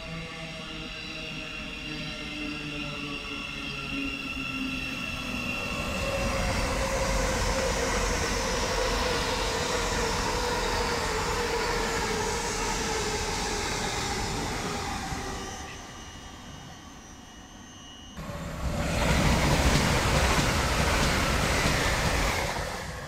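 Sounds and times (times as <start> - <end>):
electric train pulling away: 0.0 - 23.0
train passing at speed: 0.0 - 23.0.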